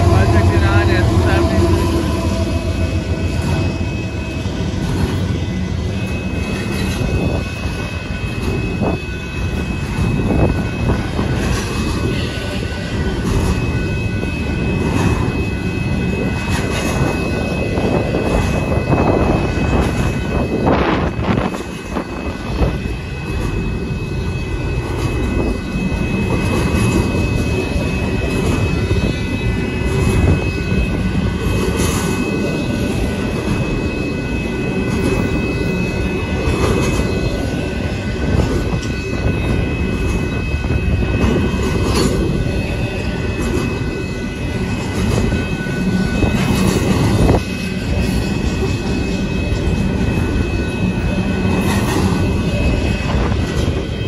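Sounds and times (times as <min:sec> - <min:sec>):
crossing warning bell ringing: 0:00.0 - 0:54.0
freight train wheels rumbling on rails: 0:00.0 - 0:54.0.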